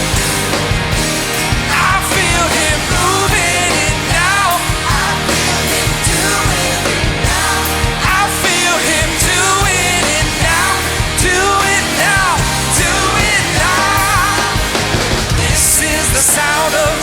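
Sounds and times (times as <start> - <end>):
worship band music: 0.0 - 17.0
person singing: 1.3 - 17.0.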